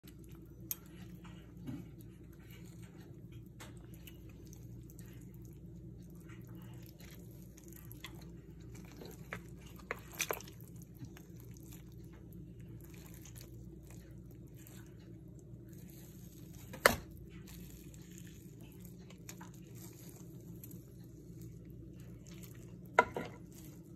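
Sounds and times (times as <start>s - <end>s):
wet squishing of meat: 0.0s - 23.9s.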